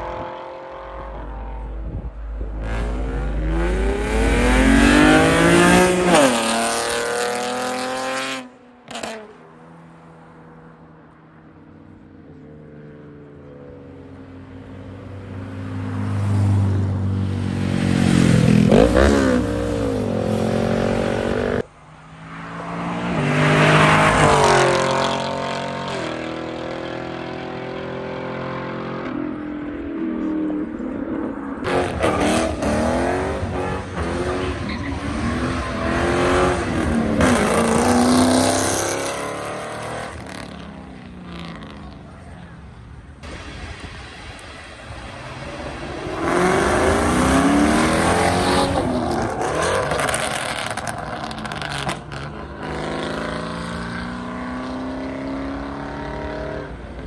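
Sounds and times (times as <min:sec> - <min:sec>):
cars accelerating past: 0:00.0 - 0:57.0.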